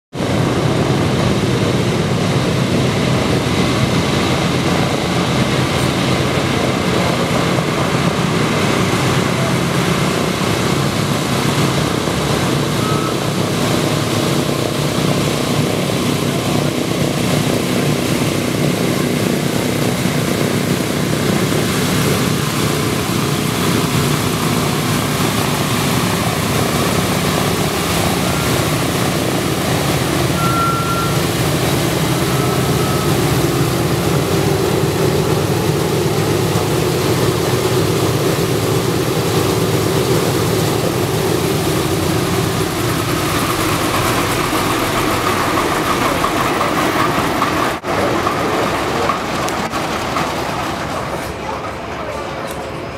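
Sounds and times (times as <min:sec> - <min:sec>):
propeller aircraft engines rumbling: 0:00.1 - 0:52.9.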